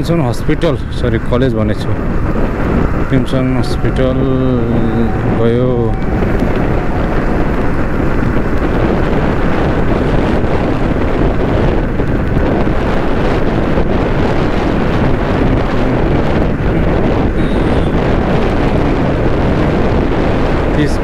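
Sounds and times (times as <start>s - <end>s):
road noise: 0.0s - 21.0s
wind rushing over microphone: 0.0s - 21.0s
motorcycle engine: 0.5s - 20.8s.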